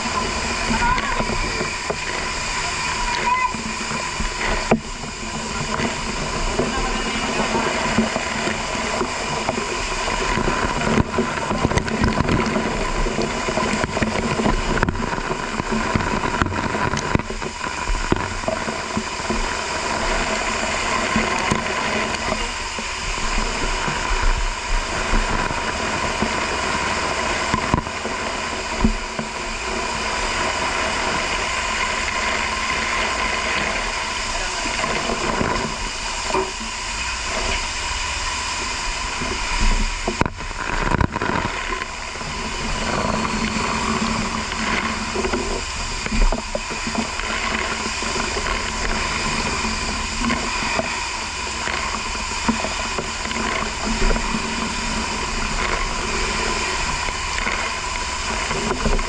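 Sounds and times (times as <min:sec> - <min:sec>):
fire hose spraying water: 0:00.0 - 0:59.0.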